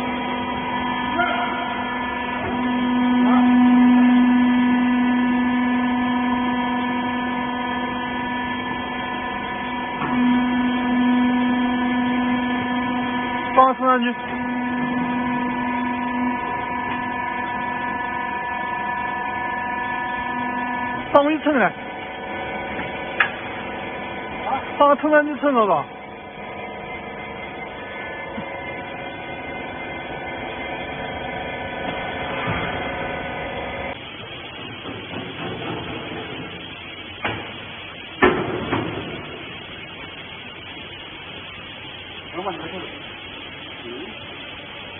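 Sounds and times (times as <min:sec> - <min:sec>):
electric motor and hydraulic pump humming: 0:00.0 - 0:44.9.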